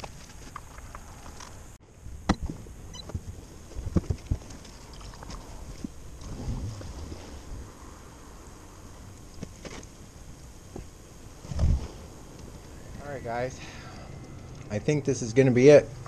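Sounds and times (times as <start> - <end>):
low steady rumble: 0.6 - 16.0.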